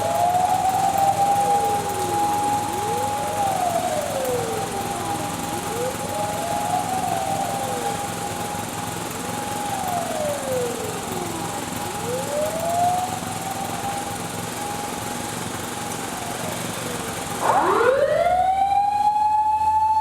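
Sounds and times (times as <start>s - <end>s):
fire engine sirens wailing: 0.0s - 20.0s.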